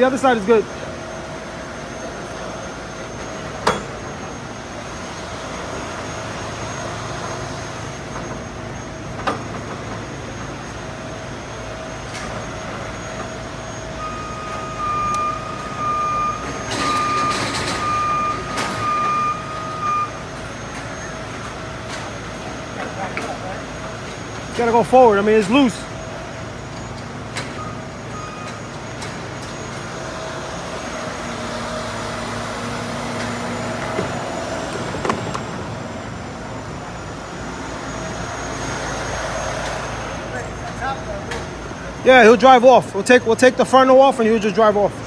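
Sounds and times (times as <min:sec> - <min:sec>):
heavy truck engine running: 0:00.0 - 0:45.0
reversing alarm beeps: 0:00.0 - 0:45.0.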